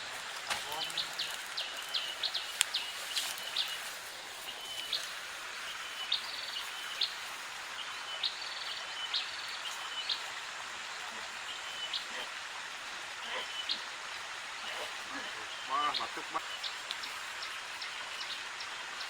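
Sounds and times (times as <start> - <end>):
outdoor hiss: 0.0 - 19.0.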